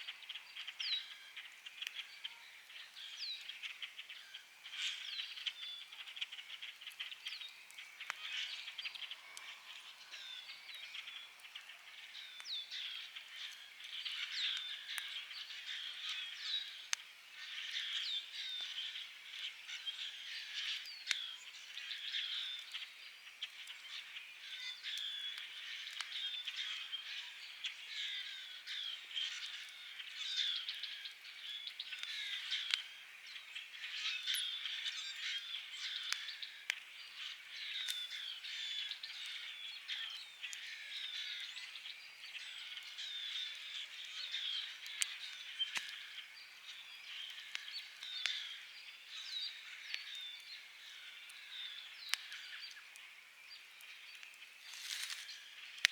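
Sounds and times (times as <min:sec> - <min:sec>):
campfire crackling: 0:00.1 - 0:55.9.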